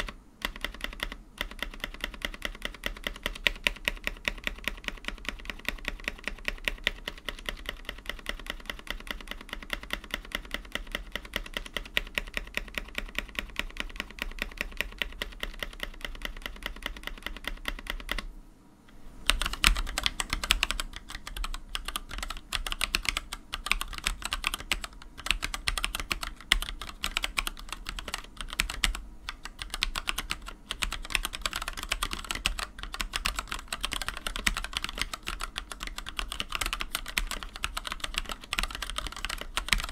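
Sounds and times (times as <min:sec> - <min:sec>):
mechanical keyboard typing: 0:00.0 - 0:18.3, 0:19.2 - 0:39.9.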